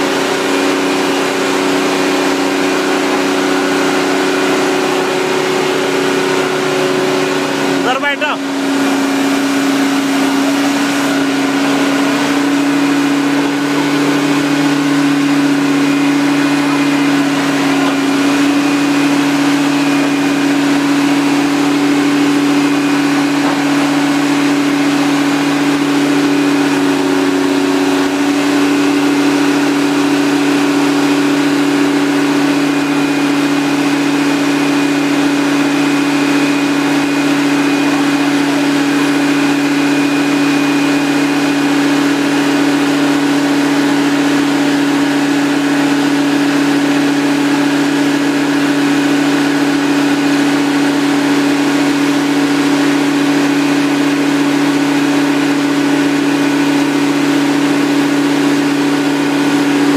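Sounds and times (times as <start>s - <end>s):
drilling rig engine drone: 0.0s - 59.9s.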